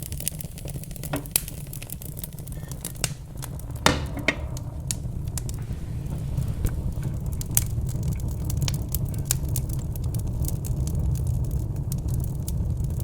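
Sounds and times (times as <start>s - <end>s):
log fire crackling: 0.0s - 13.0s.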